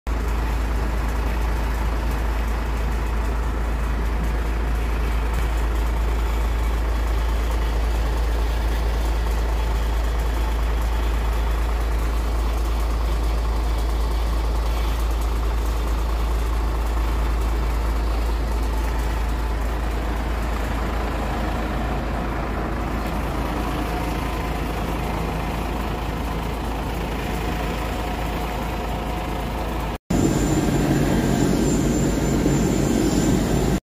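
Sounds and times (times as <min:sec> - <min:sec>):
engine idling: 0:00.1 - 0:33.8.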